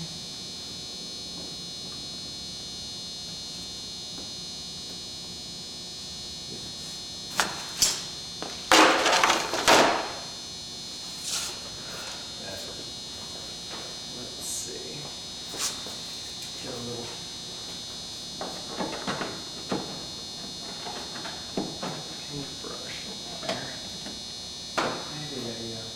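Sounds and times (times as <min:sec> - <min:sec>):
high-pitched electrical hum: 0:00.0 - 0:25.9.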